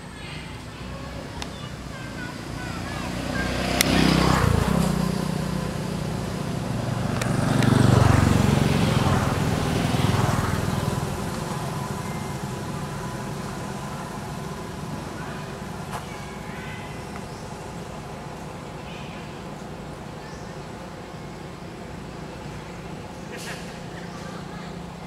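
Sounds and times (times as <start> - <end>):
motor vehicles passing by: 0.0 - 25.0.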